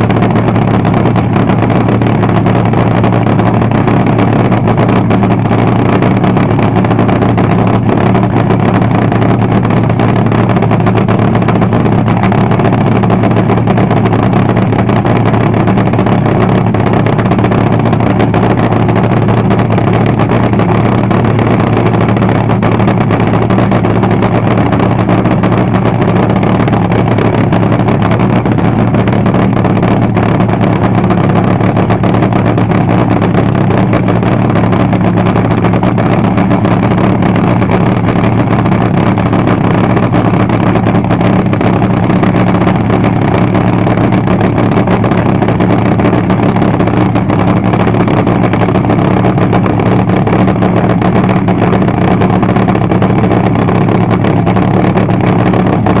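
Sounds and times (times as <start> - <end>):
dragster engine idling: 0.0 - 56.0.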